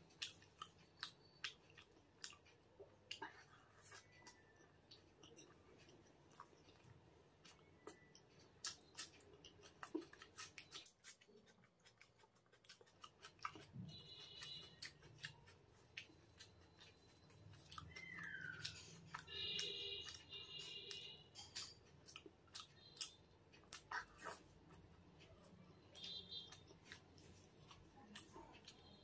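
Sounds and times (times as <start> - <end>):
wet chewing mouth sounds: 0.0 - 29.0.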